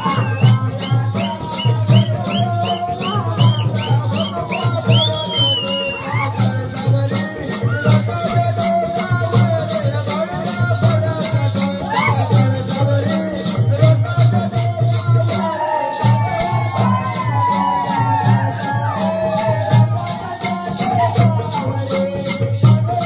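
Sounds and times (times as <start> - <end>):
fast rattling rhythm: 0.0 - 23.0
repeating drum beat: 0.0 - 23.0.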